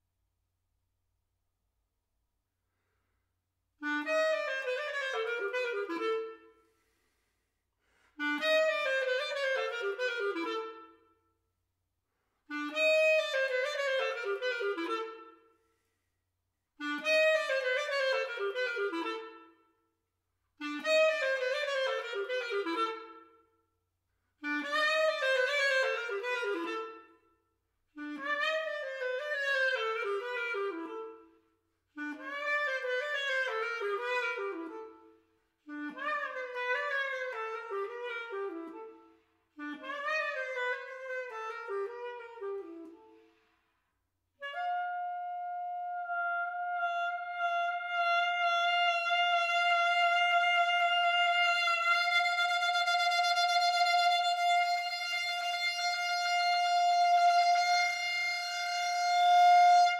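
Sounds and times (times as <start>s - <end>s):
solo clarinet playing rapid runs: 3.8s - 7.3s, 8.0s - 11.1s, 12.5s - 15.9s, 16.8s - 19.7s, 20.6s - 23.5s, 24.4s - 27.3s, 27.9s - 43.4s, 44.4s - 59.9s.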